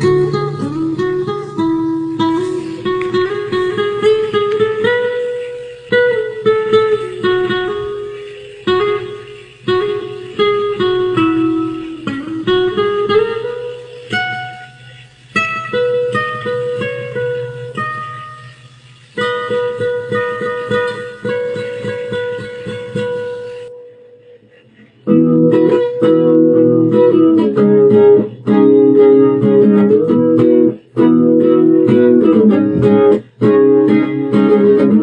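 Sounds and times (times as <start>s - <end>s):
plucked guitar notes: 0.0s - 35.0s.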